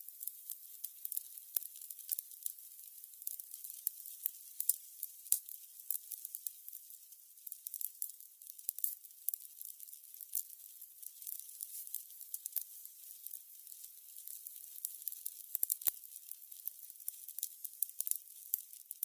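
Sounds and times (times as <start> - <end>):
candles hissing and crackling: 0.0 - 19.0.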